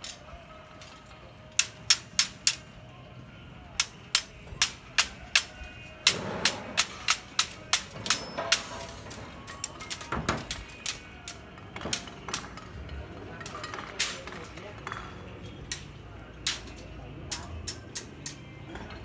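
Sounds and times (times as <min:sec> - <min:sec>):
metal wire clinking and tapping: 0:00.8 - 0:02.7, 0:03.8 - 0:19.0.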